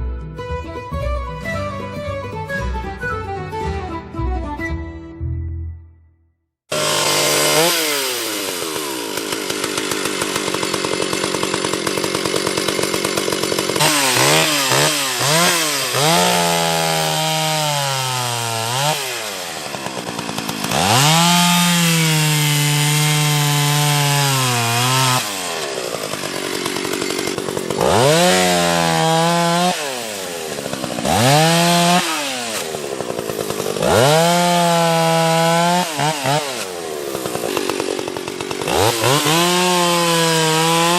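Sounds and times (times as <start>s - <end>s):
chainsaw cutting wood: 6.7s - 40.9s.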